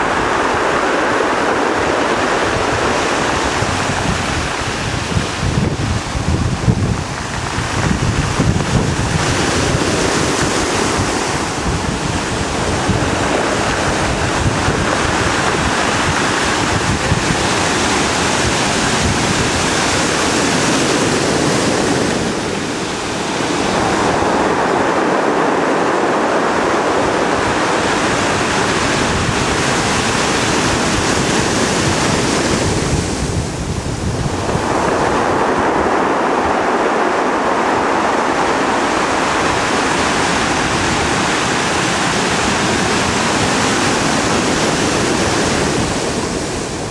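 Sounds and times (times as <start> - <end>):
waves breaking over rocks: 0.0 - 46.9
wind buffeting microphone: 0.0 - 46.9.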